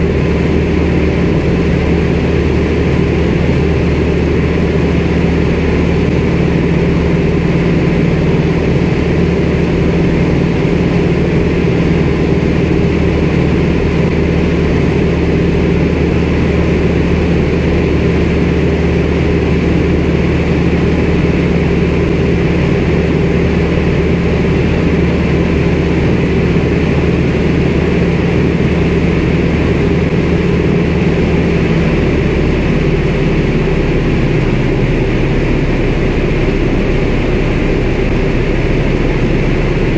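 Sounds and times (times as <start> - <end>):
radial aircraft engine and propeller: 0.0 - 39.9.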